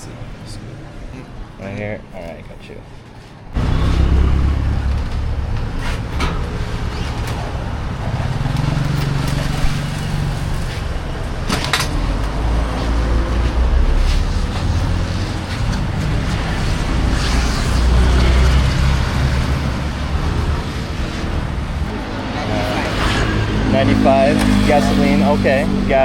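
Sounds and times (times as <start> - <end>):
motor vehicles passing: 0.0 - 26.0.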